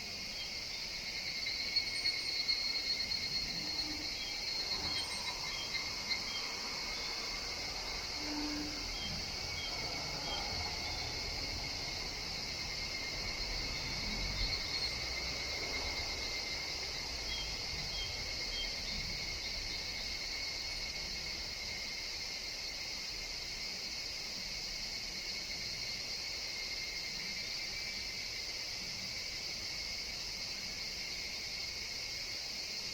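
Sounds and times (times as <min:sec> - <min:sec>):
cicadas shrilling: 0:00.0 - 0:32.9.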